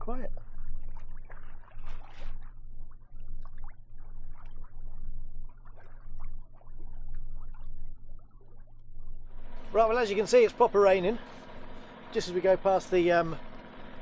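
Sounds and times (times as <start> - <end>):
water splashing against hull: 0.0 - 12.0
steady low hum: 0.0 - 14.0.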